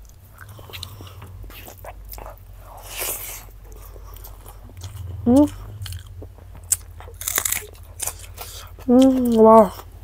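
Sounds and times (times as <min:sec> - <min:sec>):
chewing and biting food: 0:00.0 - 0:10.0.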